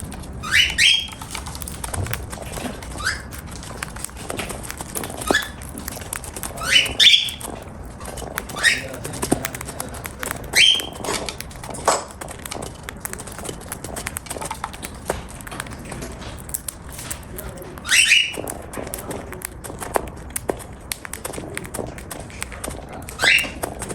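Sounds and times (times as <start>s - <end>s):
cockatiel chirping: 0.0s - 15.2s, 16.4s - 23.9s
cockatiel beak crunching food: 0.0s - 23.9s.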